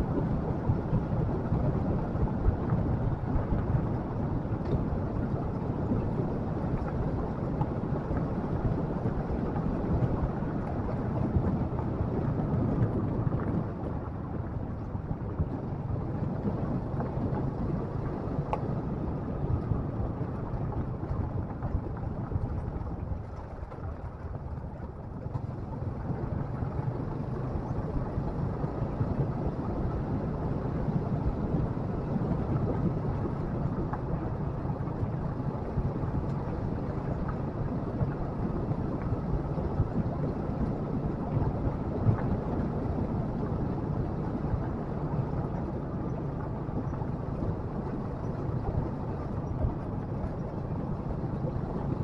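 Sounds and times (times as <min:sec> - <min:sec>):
wind over microphone: 0:00.0 - 0:52.0.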